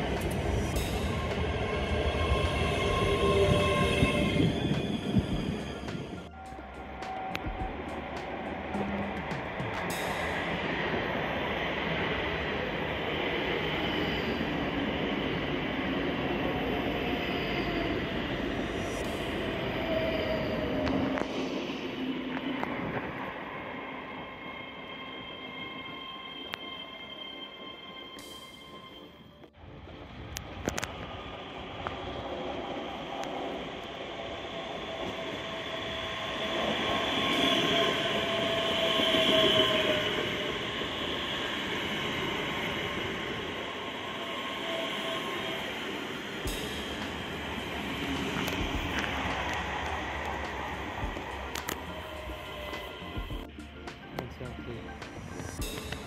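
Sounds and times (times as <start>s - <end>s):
train wheels rumbling on rail: 0.0s - 24.6s, 29.8s - 56.0s.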